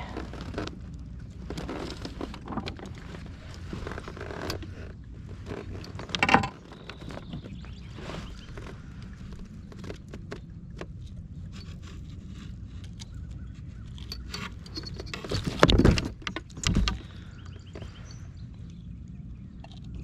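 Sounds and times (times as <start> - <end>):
gear knocking and creaking: 0.0 - 18.1
steady low rumble: 0.0 - 20.0.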